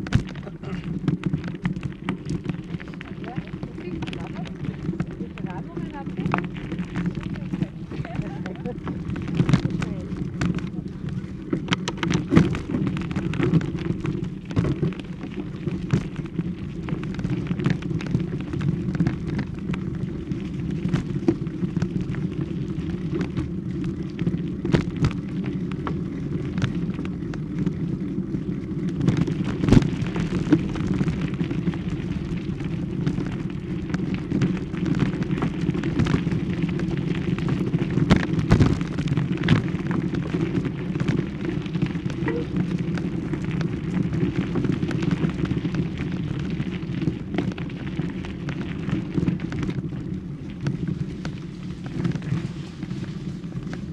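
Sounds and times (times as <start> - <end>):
crackles and clicks: 0.0 - 53.9
microphone handling noise: 0.0 - 53.9
wind rumble on microphone: 0.0 - 53.9.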